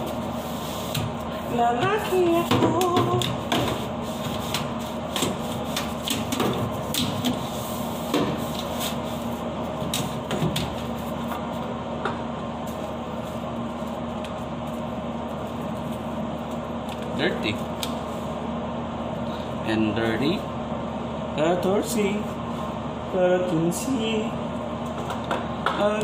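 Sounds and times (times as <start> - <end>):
ventilation hum: 0.0 - 26.0.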